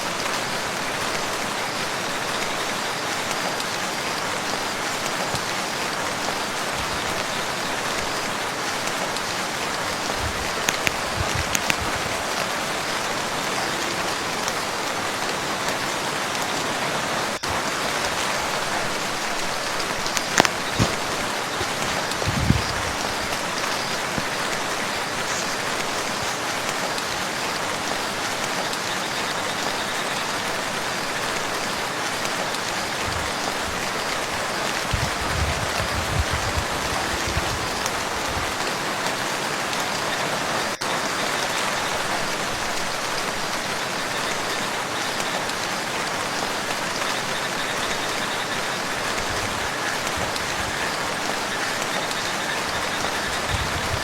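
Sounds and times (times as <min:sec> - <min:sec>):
rain falling on a lake: 0:00.0 - 0:54.0.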